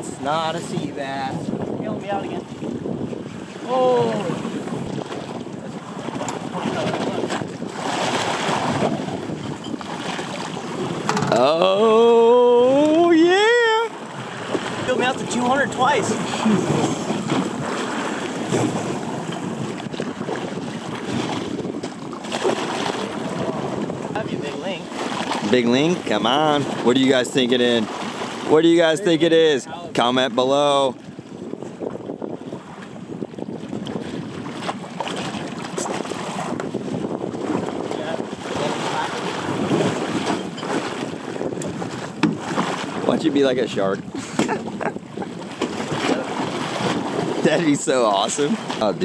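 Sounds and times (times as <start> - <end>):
water splashing against hull: 0.0 - 49.0
wind buffeting microphone: 0.0 - 49.0.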